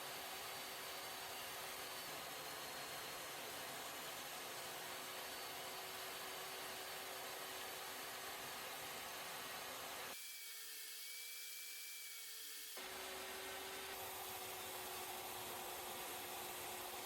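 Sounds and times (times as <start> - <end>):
power saw cutting wood: 0.0 - 17.0.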